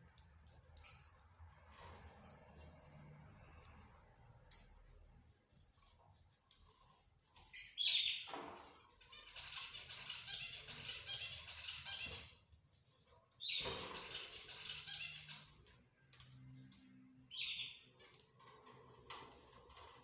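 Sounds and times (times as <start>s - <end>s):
cage birds chirping: 0.0s - 20.0s.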